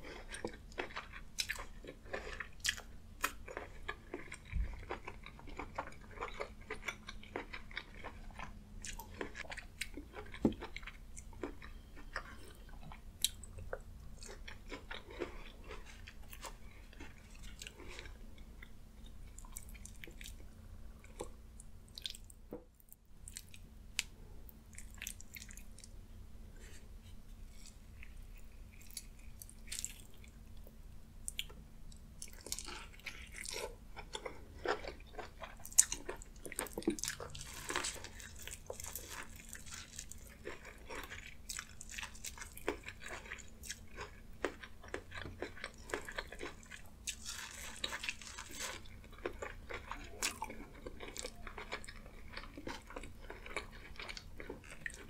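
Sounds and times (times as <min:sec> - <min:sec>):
person chewing wet food: 0:00.0 - 0:55.0.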